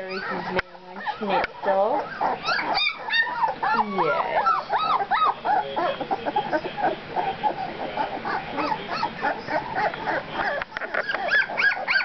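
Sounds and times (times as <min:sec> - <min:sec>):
puppies squeaking and whimpering: 0:00.0 - 0:12.0.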